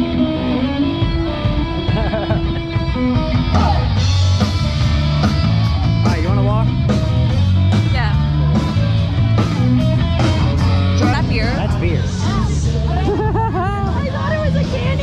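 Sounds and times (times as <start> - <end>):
guitar rock music: 0.0 - 15.0.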